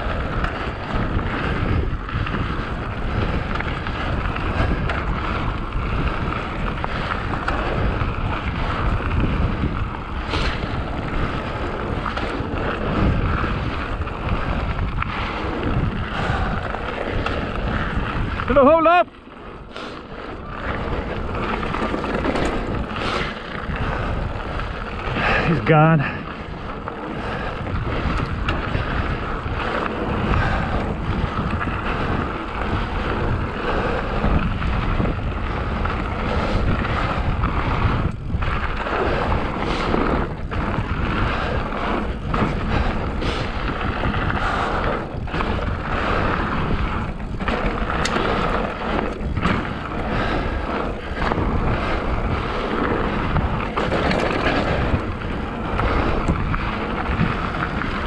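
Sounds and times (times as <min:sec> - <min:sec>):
bike tyres rumbling over trail: 0:00.0 - 0:58.0
wind buffeting microphone: 0:00.0 - 0:58.0.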